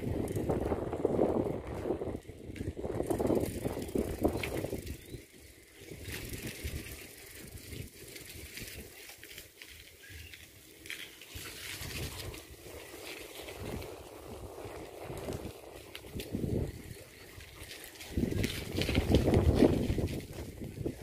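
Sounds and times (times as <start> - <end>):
wind rumble on microphone: 0.0 - 9.4, 10.2 - 21.0.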